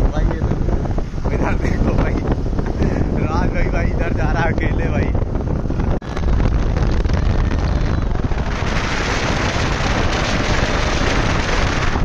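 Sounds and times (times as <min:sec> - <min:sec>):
vehicle rumble on highway: 0:00.0 - 0:12.0
wind buffeting microphone: 0:00.0 - 0:12.0.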